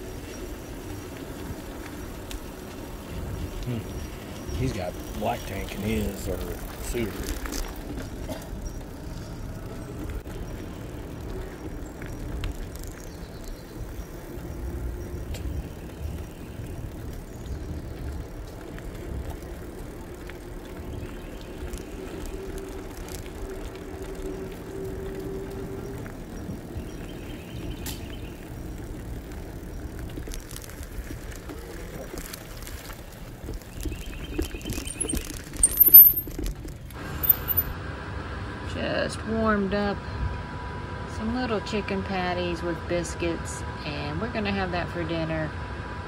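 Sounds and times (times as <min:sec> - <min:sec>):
tyre noise: 0:00.0 - 0:37.8
wind rumbling on microphone: 0:00.0 - 0:37.8.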